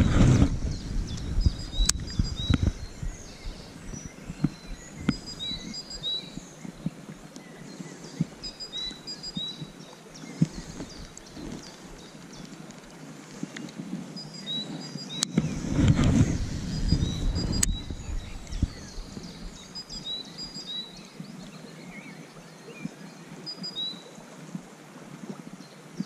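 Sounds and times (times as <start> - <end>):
shallow river rushing: 0.0 - 26.0
songbird chirping: 0.6 - 24.2.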